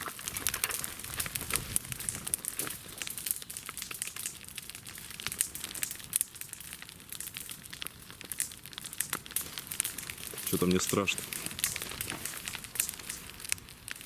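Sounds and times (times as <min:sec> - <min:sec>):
bonfire crackling and snapping: 0:00.0 - 0:14.0.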